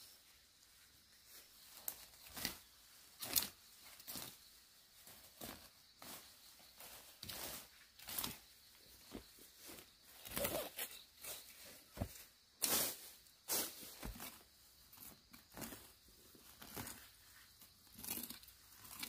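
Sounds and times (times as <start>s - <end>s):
weeds ripping and rustling: 1.7s - 19.0s.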